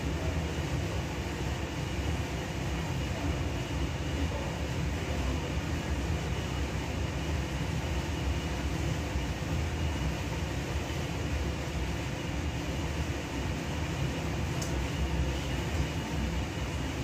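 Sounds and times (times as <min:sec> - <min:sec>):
range hood exhaust fan running: 0:00.0 - 0:17.0.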